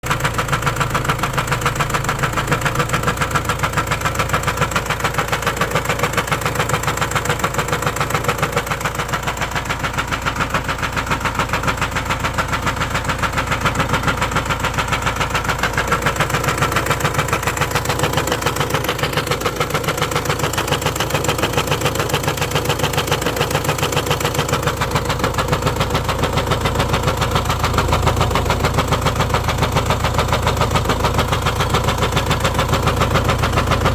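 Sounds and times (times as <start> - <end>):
diesel engine idling: 0.0 - 33.9
regular engine knock: 0.0 - 33.9.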